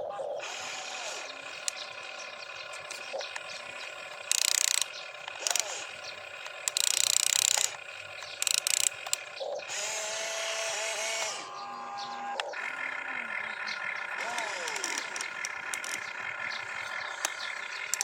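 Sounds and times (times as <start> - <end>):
small electric motors whirring: 0.1 - 13.2, 14.1 - 18.0.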